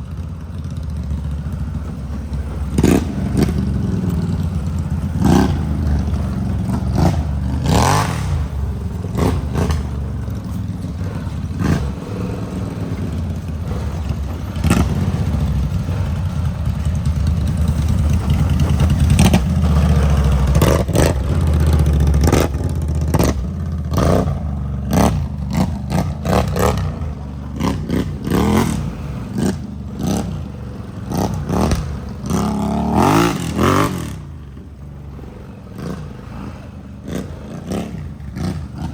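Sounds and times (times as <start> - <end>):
clattering knocks and rattles: 0.0 - 35.1
atv engine revving: 0.0 - 38.9.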